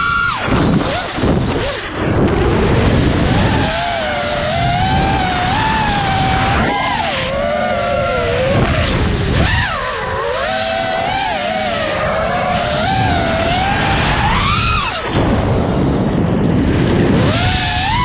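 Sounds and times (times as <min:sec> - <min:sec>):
drone motors whining: 0:00.0 - 0:18.0
rumbling wind: 0:00.0 - 0:18.0.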